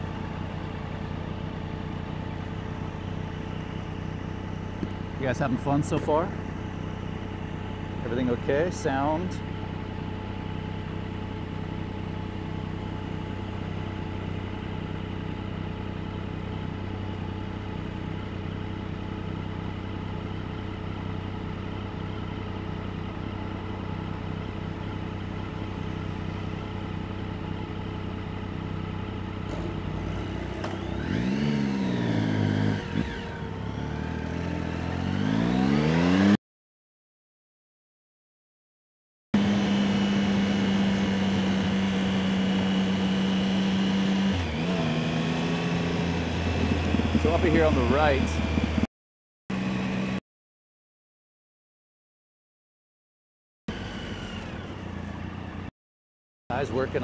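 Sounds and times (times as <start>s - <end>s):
motorcycle engine idling and revving: 0.0s - 36.4s, 39.4s - 48.9s, 49.5s - 50.2s, 53.7s - 55.7s, 56.5s - 57.0s.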